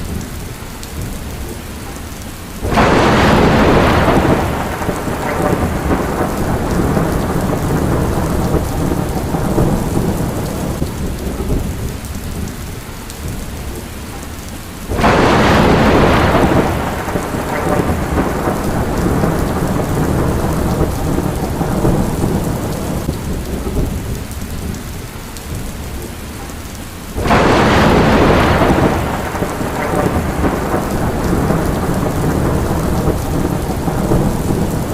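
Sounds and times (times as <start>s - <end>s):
steady rain: 0.0s - 34.9s
thunder claps rumbling: 2.6s - 14.0s, 14.8s - 26.5s, 27.1s - 34.9s.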